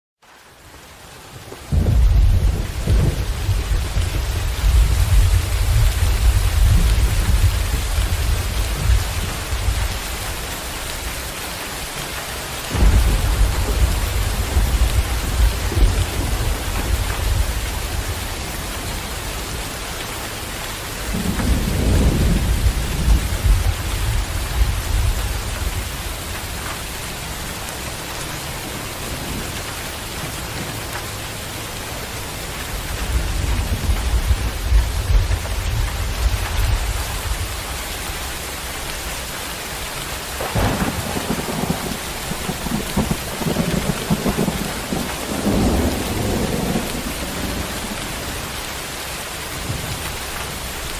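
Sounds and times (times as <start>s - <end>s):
heavy rain: 0.2s - 50.9s
thunder rumbling: 1.7s - 11.1s, 12.7s - 29.7s, 32.6s - 39.0s, 40.3s - 50.9s.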